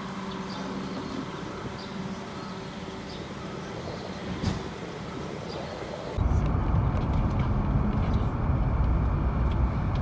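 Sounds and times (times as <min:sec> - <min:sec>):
distant traffic rumble: 0:00.0 - 0:10.0.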